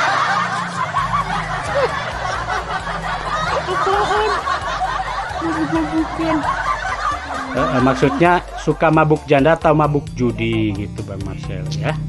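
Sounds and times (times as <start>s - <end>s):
people laughing: 0.0s - 10.2s
low hum: 0.0s - 12.0s.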